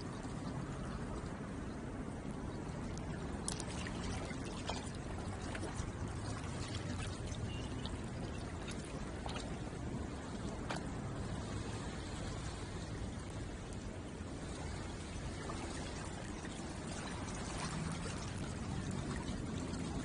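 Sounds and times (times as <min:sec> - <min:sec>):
water lapping at shoreline: 0:00.0 - 0:20.0
light clicks and splashes: 0:02.4 - 0:20.0.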